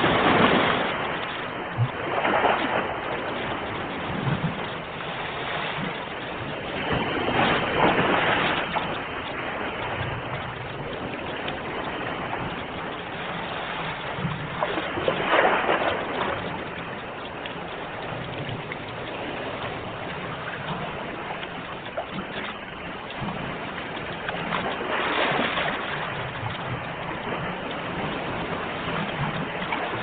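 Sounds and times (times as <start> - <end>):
surf rushing: 0.0 - 30.0
waves breaking: 0.0 - 30.0.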